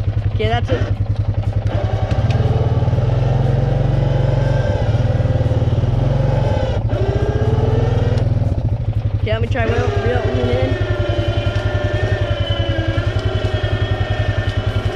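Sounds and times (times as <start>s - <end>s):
four-wheeler engine running: 0.0s - 14.9s.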